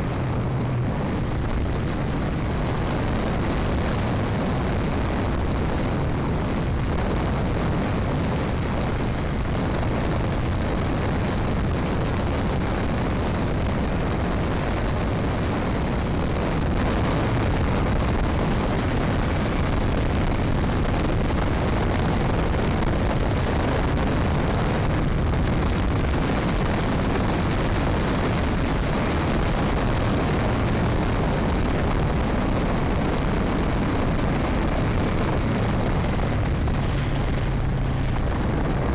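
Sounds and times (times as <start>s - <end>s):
motorcycle running: 0.0s - 38.9s
wind rushing: 0.0s - 38.9s.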